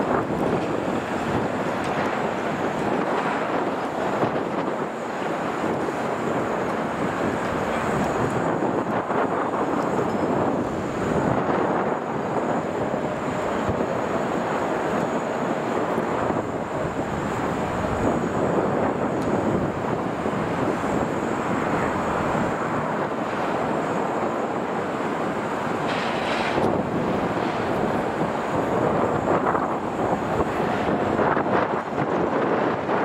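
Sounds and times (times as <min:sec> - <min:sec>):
crane diesel engine drone: 0:00.0 - 0:33.0.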